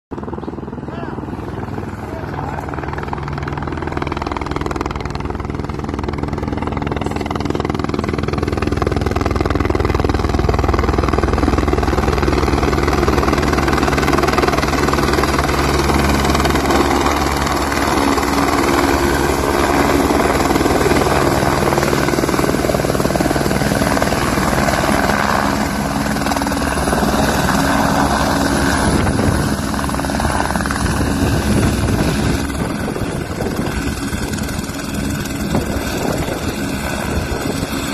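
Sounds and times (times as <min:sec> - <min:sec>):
helicopter rotor chopping: 0:00.1 - 0:37.9.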